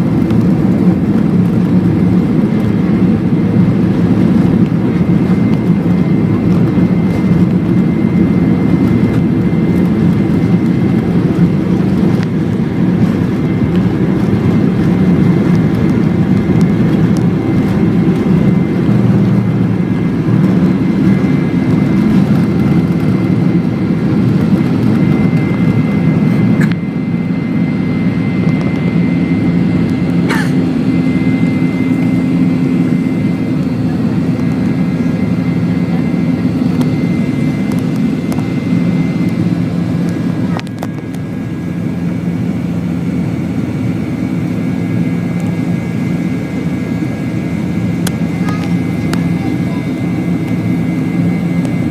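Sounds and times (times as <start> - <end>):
jet engines rumble and whine: 0.0 - 51.9.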